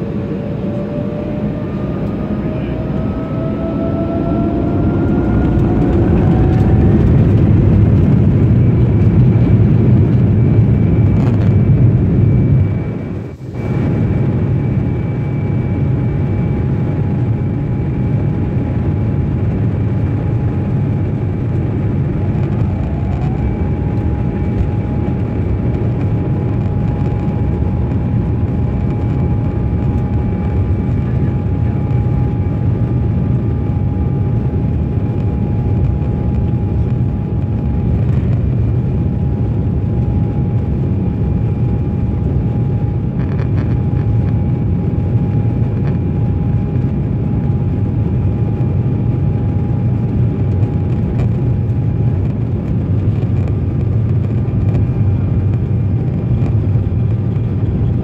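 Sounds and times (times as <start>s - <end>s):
jet engine high-pitched whine: 0.0s - 58.0s
jet engine low rumble: 0.0s - 58.0s.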